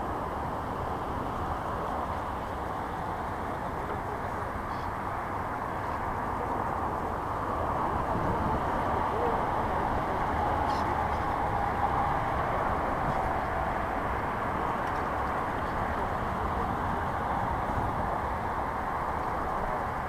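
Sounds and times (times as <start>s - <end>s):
water rushing along hull: 0.0s - 20.0s
wind buffeting microphone: 0.0s - 20.0s.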